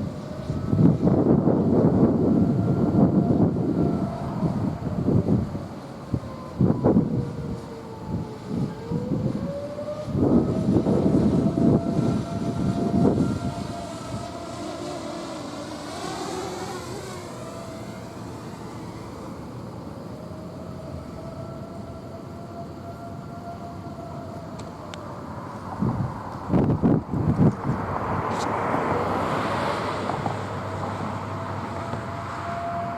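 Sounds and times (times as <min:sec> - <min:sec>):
civil defense siren wailing: 0:00.0 - 0:32.9
wind buffeting microphone: 0:00.0 - 0:32.9.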